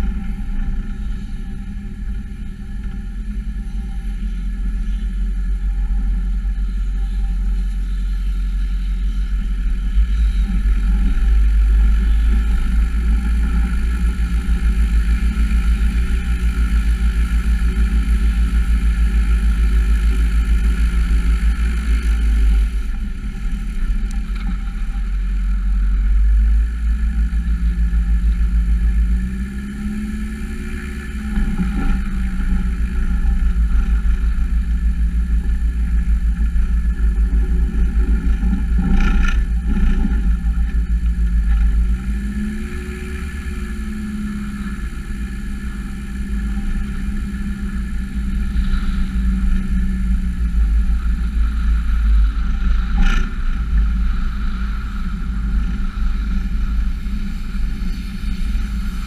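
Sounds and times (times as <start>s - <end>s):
aircraft engine and propeller: 0.0s - 59.0s.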